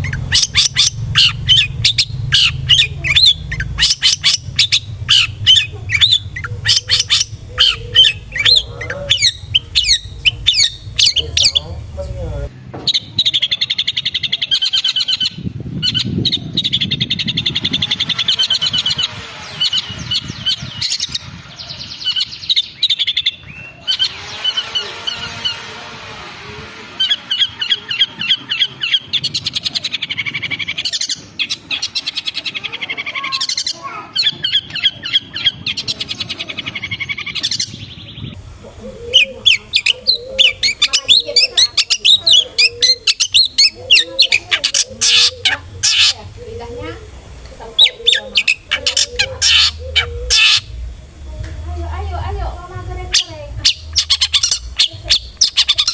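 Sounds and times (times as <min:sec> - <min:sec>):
bird chattering song: 0:00.0 - 0:25.7, 0:26.9 - 0:50.9, 0:51.8 - 0:55.9.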